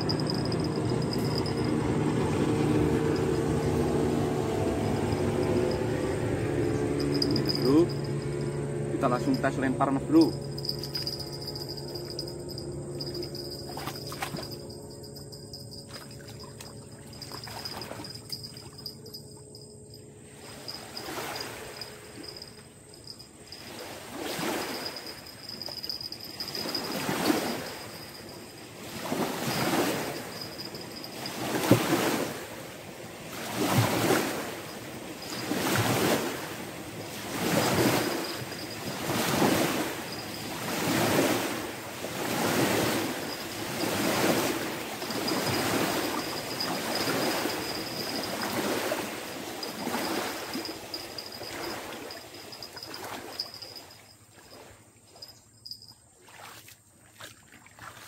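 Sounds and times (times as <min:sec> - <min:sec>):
small waves washing against bank: 0:00.0 - 0:19.4, 0:20.2 - 0:55.3, 0:56.1 - 0:58.0.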